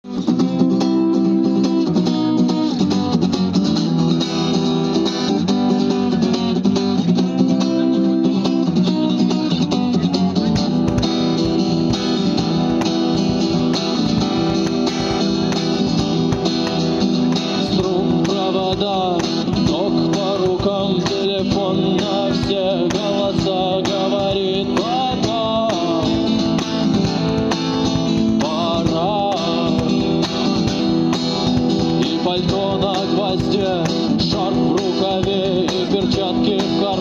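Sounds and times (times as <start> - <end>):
cajon beat: 0.0 - 37.0
guitar strumming chords: 0.0 - 37.0.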